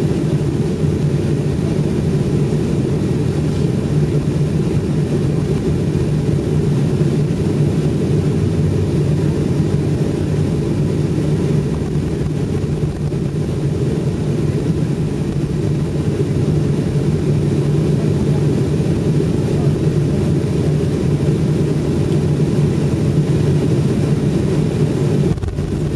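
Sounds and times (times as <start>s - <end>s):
airliner cabin engine rumble: 0.0s - 25.9s.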